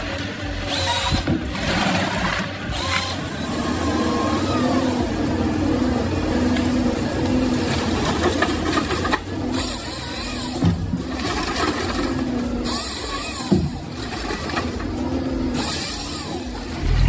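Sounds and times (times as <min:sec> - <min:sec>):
machinery droning with whine: 0:00.0 - 0:17.0.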